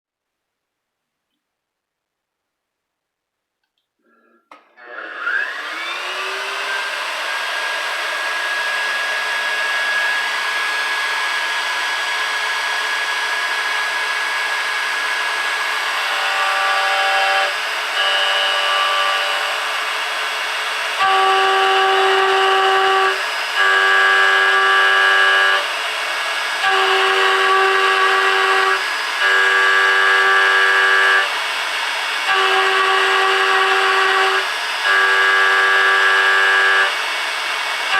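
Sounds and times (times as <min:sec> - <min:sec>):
endmill cutting steel with chatter: 0:04.8 - 0:37.9
mill spindle whining: 0:04.9 - 0:37.9.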